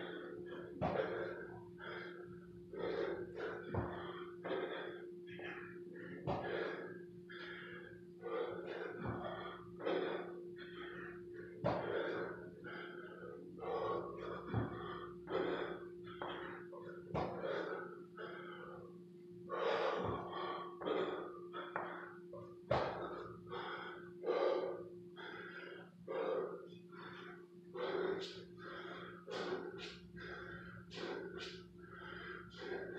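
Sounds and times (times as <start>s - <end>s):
man gasping breathing: 0.0s - 32.9s.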